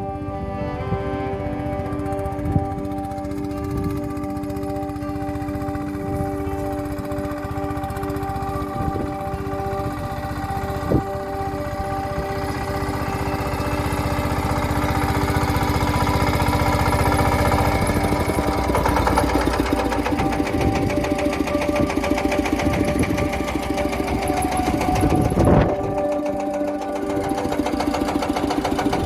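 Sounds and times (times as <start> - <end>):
small engine clattering: 1.8 - 29.0.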